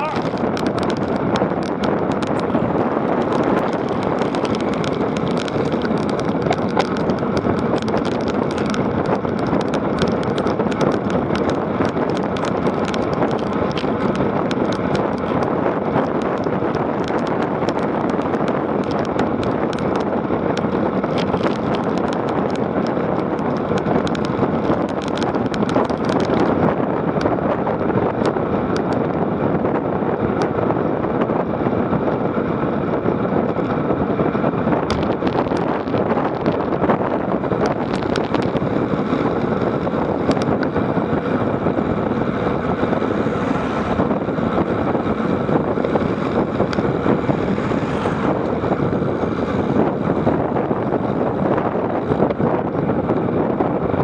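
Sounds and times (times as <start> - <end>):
bike rattling on rough ground: 0.0 - 54.0
wind rushing over microphone: 0.0 - 54.0.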